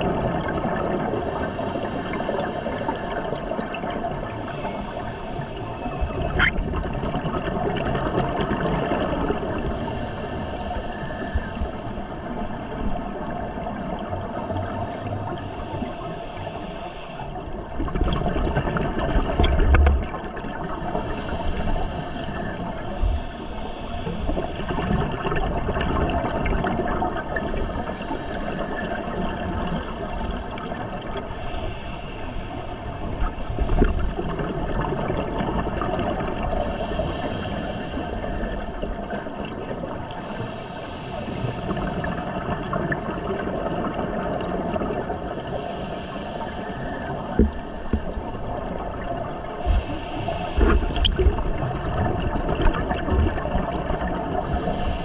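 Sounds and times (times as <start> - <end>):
underwater water wash: 0.0 - 55.0.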